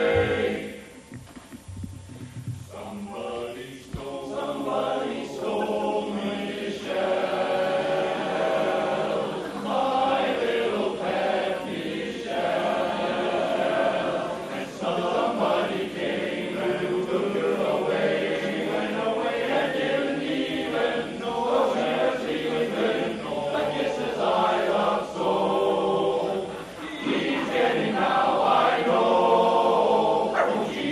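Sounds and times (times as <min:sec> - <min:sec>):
men's chorus singing a cappella: 0:00.0 - 0:00.9, 0:02.7 - 0:30.9.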